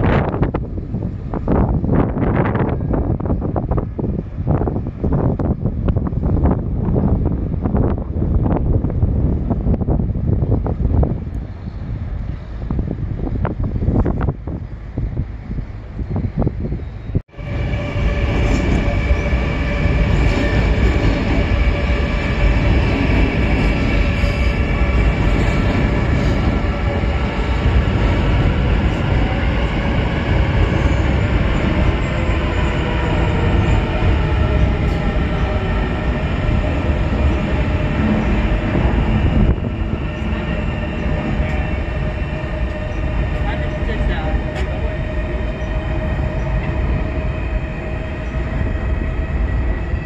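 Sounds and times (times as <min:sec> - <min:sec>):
metro train rumbling past: 0:00.0 - 0:50.0
train whine: 0:00.0 - 0:50.0
wind buffeting microphone: 0:00.0 - 0:50.0.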